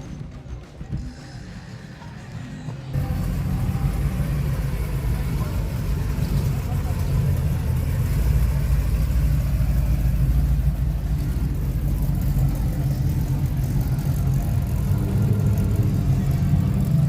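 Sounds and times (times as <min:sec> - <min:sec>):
car engine idling: 0:01.0 - 0:17.0.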